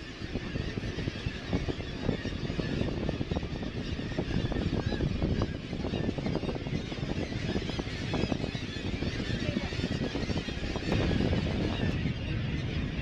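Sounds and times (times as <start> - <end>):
boat engine rumble: 0.0 - 13.0
seabirds crying: 0.0 - 13.0
wind on microphone: 0.0 - 13.0.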